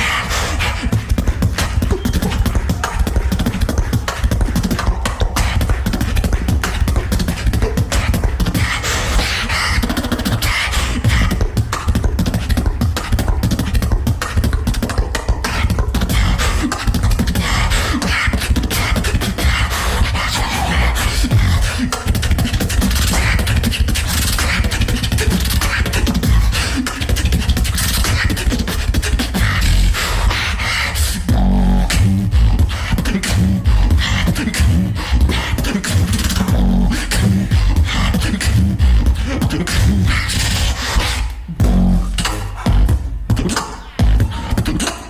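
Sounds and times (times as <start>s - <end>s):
beatboxing: 0.0s - 45.0s.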